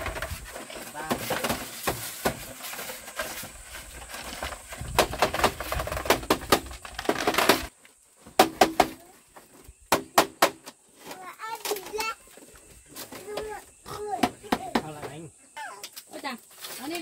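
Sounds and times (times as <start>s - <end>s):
bamboo tubes clattering: 0.0s - 15.2s.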